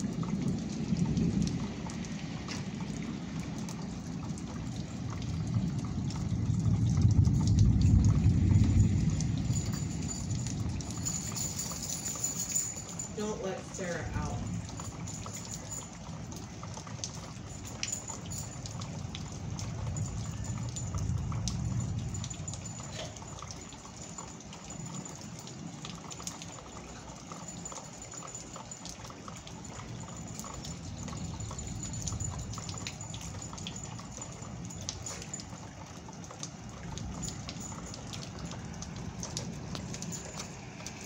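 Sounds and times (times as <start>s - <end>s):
drops and drips tapping: 0.0s - 41.0s
steady rain falling: 0.0s - 41.0s.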